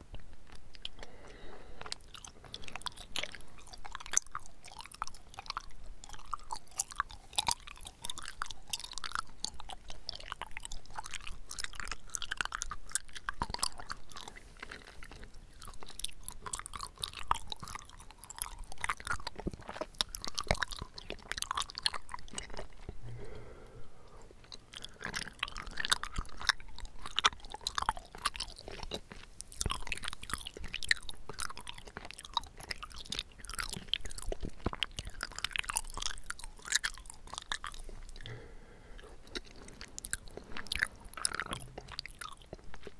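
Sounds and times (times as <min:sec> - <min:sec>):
wet chewing clicks and smacks: 0:00.0 - 0:23.4, 0:24.0 - 0:42.9.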